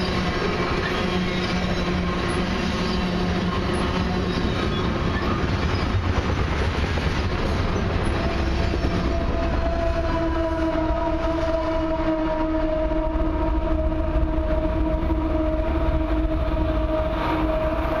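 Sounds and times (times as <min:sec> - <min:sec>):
diesel locomotive engine drone: 0:00.0 - 0:18.0
tank cars rumbling on rails: 0:00.0 - 0:18.0.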